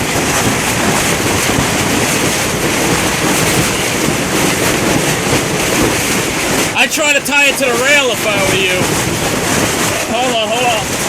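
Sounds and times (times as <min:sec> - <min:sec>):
heavy rain: 0:00.0 - 0:11.0
strong wind buffeting microphone: 0:00.0 - 0:11.0
waves on river: 0:00.0 - 0:11.0.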